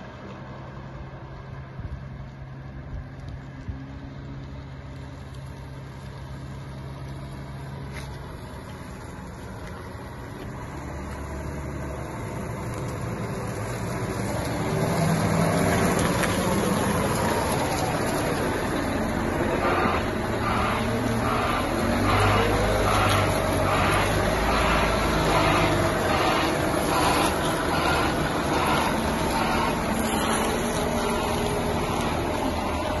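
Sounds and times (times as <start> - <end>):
diesel engine idling: 4.6 - 33.0.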